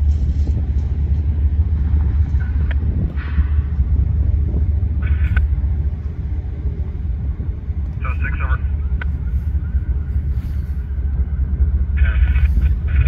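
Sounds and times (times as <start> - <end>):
locomotive engines rumbling: 0.0 - 13.0.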